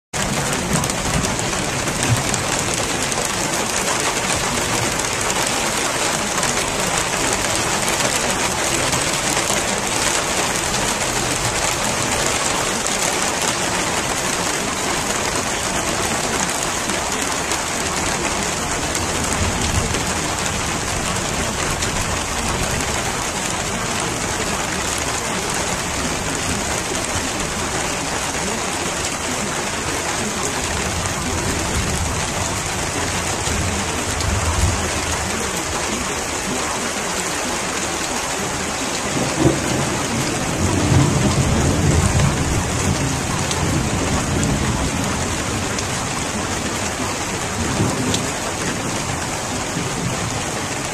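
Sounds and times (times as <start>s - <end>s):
steady rain falling: 0.1s - 50.9s.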